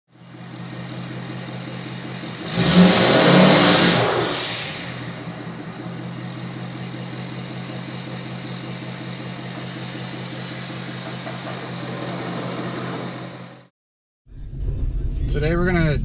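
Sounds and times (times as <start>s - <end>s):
diesel truck engine revving: 0.2s - 13.7s.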